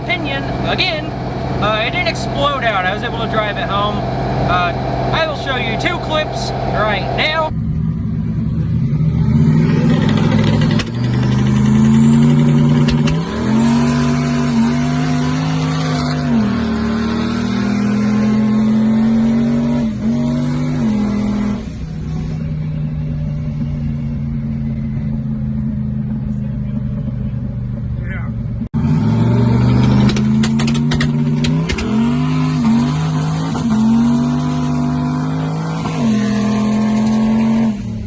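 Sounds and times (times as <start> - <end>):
car engine accelerating hard: 0.0 - 38.0.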